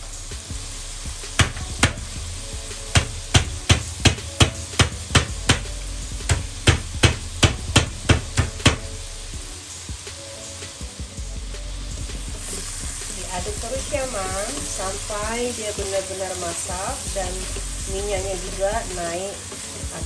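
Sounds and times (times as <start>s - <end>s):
paste frying in oil: 0.0s - 20.0s.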